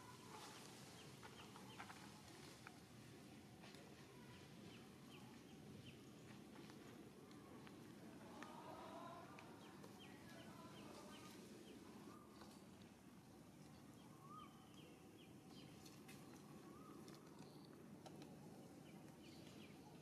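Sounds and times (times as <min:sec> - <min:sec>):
birds chirping: 0:00.0 - 0:02.8, 0:04.1 - 0:17.9
low background hum: 0:00.0 - 0:20.0.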